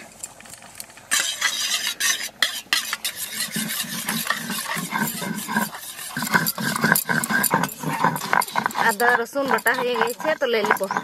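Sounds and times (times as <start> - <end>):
metal spatula scraping steel bowl: 1.1 - 11.0.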